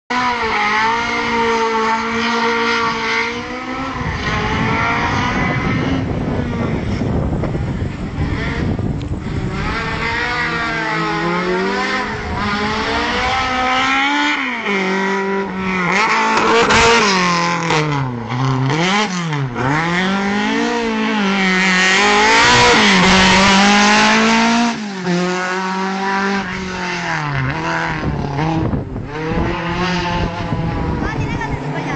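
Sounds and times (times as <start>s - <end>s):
race car engine revving: 0.1s - 31.9s.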